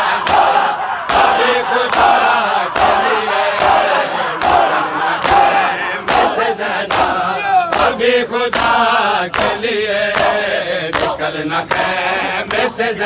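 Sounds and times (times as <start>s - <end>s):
men chanting together: 0.0s - 13.0s
hands slapping chests: 0.1s - 9.6s, 10.2s - 12.7s.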